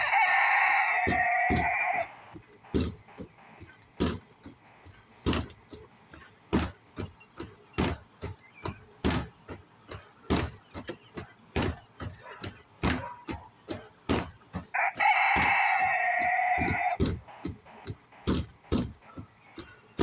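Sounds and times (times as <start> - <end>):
punches hitting punching bag: 0.2 - 4.6, 6.5 - 20.0.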